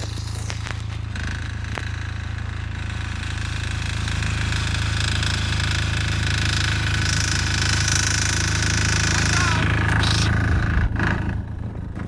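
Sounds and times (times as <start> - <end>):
small diesel engine clattering: 0.0 - 12.0.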